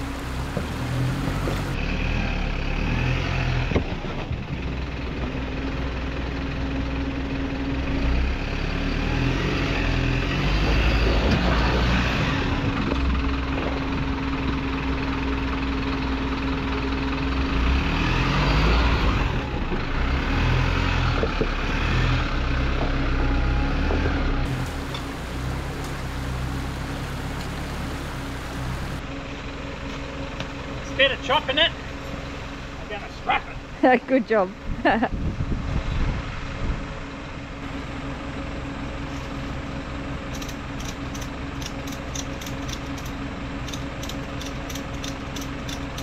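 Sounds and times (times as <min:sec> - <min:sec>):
diesel truck engine at low revs: 0:00.0 - 0:46.0.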